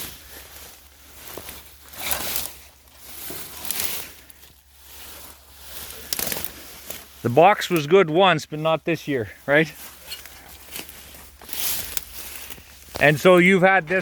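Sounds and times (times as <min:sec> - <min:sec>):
footsteps rustling through undergrowth: 0:00.0 - 0:14.0.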